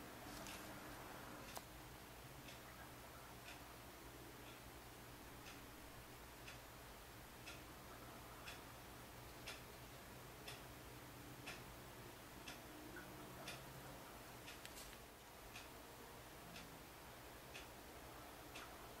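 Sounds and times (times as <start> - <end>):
clock ticking: 1.4 - 19.0.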